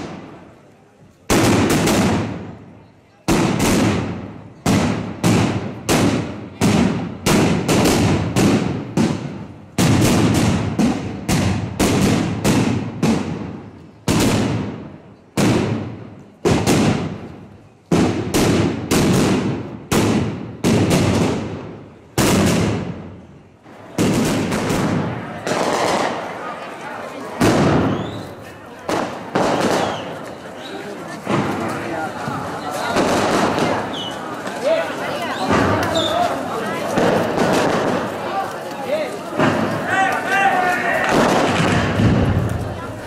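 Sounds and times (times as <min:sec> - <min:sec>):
firecrackers banging: 0:00.0 - 0:43.0.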